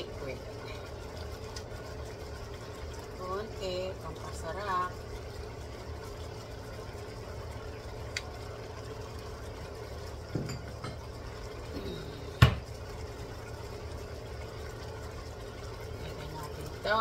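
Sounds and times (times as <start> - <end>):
food cooking in a wok: 0.0 - 17.0.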